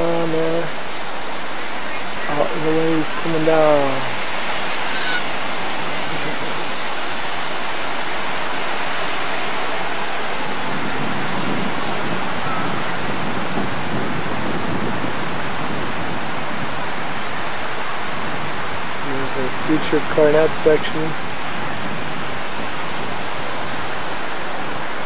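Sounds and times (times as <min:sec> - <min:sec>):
ocean surf breaking on beach: 0:00.0 - 0:25.0.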